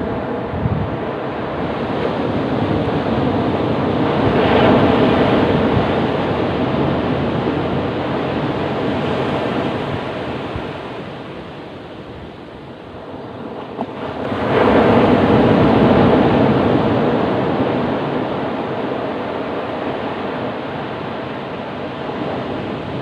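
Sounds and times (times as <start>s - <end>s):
ocean wave breaking: 0.0s - 23.0s.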